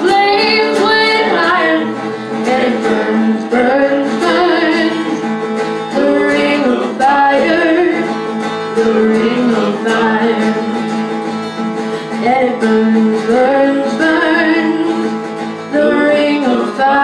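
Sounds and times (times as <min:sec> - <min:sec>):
woman singing: 0:00.0 - 0:11.2, 0:12.0 - 0:17.0
strummed acoustic guitar: 0:00.0 - 0:17.0.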